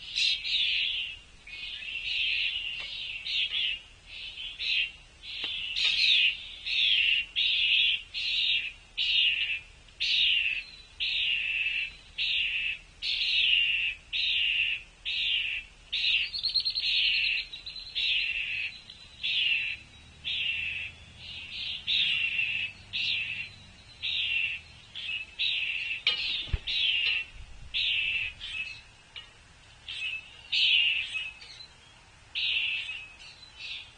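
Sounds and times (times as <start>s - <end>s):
bird calling down-slurred note: 0.0s - 31.6s
high bird trill: 0.0s - 33.9s.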